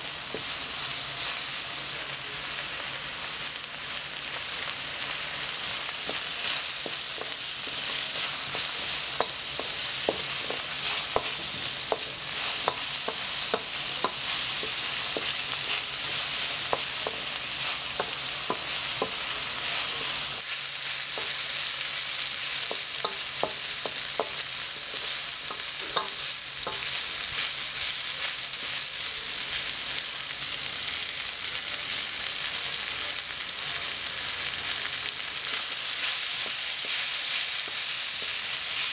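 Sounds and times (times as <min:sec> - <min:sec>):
vegetables sizzling in a wok: 0:00.0 - 0:38.9.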